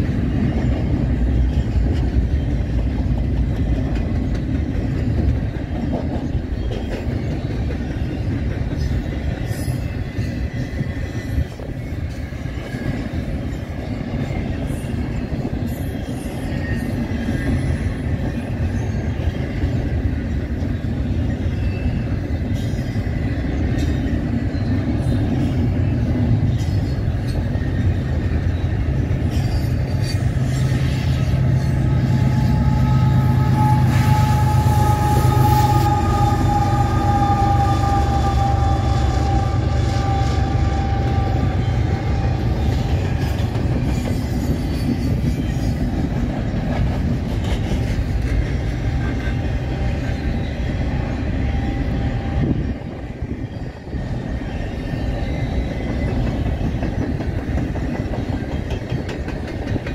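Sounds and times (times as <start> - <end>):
diesel locomotive engine drone: 0.0 - 59.9
freight cars rolling on rails: 0.0 - 59.9.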